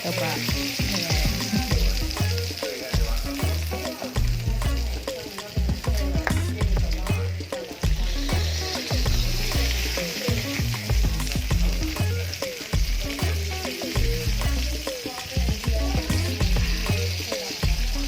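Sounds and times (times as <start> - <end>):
background music: 0.0 - 18.0
meat sizzling in a frying pan: 0.0 - 18.0.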